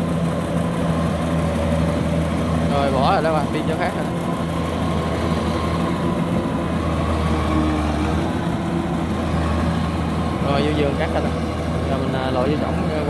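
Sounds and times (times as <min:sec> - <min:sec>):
combine harvester diesel engine humming: 0:00.0 - 0:13.0.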